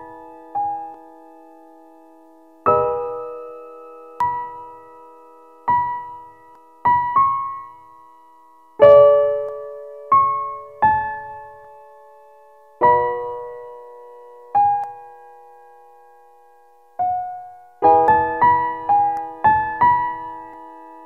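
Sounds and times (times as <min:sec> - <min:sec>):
slow sparse piano music: 0:00.0 - 0:21.0.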